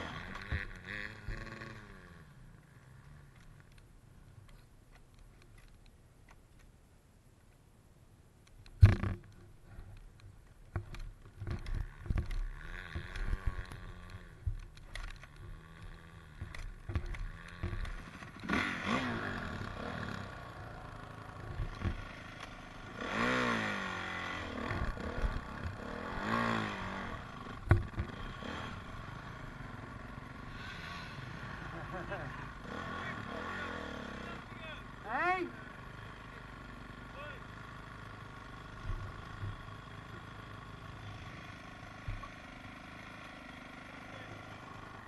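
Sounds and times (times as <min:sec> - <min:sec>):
dirt bike engine revving: 0:00.0 - 0:03.5, 0:11.4 - 0:45.0.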